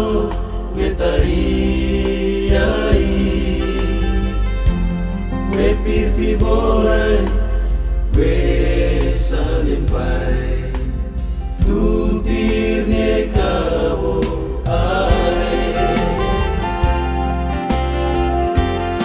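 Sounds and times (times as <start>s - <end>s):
male vocal group singing in harmony: 0.0s - 4.8s, 5.4s - 17.2s
instrumental backing with low bass: 0.0s - 19.0s.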